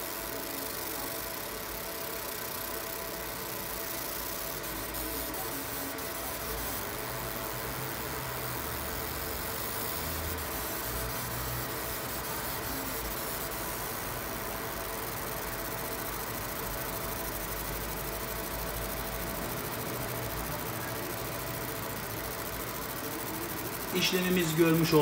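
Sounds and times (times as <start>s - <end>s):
laser marking machine whirring hum: 0.0s - 25.0s.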